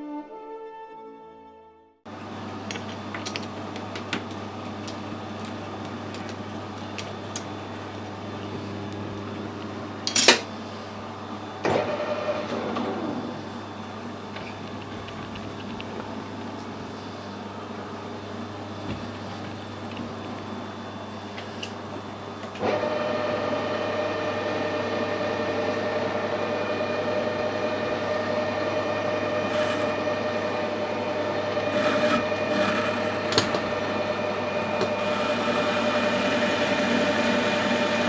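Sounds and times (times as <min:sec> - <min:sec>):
workshop machine humming: 0:02.1 - 0:38.0.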